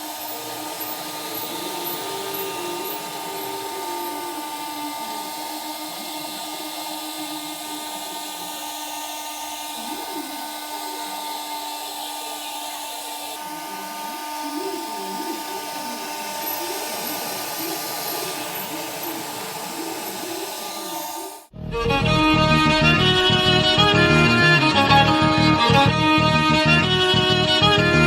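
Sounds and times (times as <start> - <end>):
small vacuum motor whining: 0.0 - 28.0.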